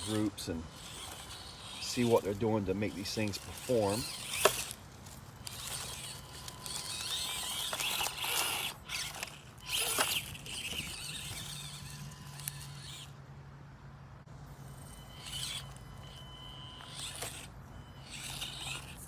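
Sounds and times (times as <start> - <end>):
toy truck motor whine: 0.0 - 13.2, 14.3 - 19.0.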